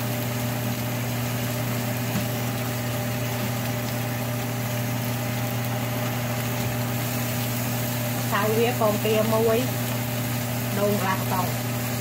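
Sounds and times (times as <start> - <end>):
crepe frying in a pan: 0.0 - 12.0
steady low hum: 0.0 - 12.0.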